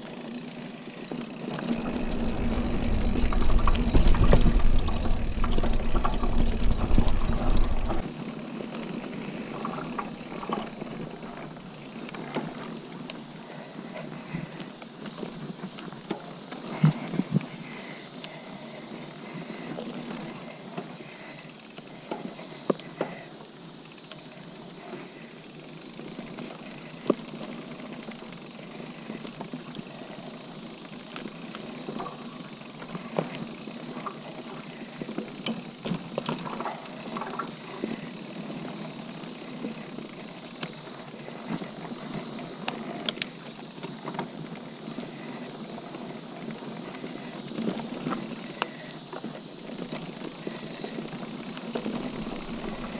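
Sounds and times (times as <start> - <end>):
bike rattling over bumps: 0.0 - 22.4, 23.0 - 52.9
bike tyres rolling on dirt: 0.0 - 52.9.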